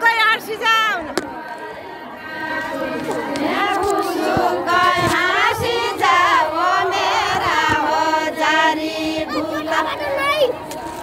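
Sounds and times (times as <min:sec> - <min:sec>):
women singing folk song: 0:00.3 - 0:11.0.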